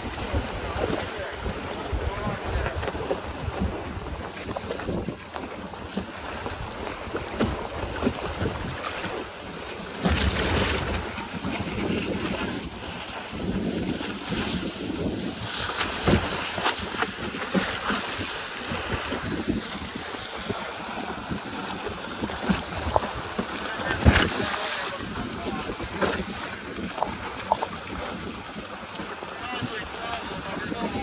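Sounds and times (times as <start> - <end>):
waves splashing against boat hull: 0.0 - 31.0
wind buffeting microphone: 0.0 - 31.0.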